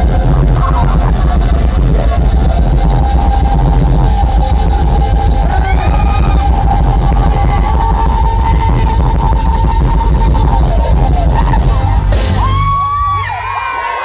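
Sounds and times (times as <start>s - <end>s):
crowd voices calling out: 0.0s - 14.0s
live concert music: 0.0s - 14.0s.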